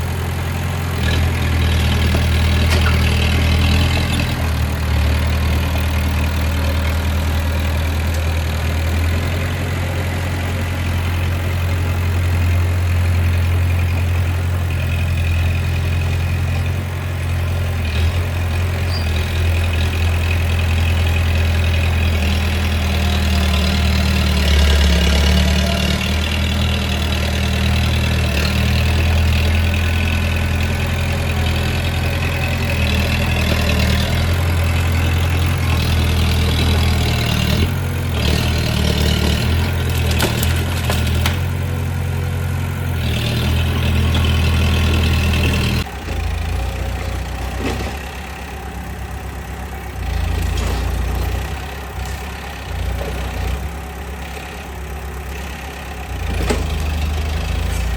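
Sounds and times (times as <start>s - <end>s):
bulldozer diesel engine drone: 0.0s - 57.9s.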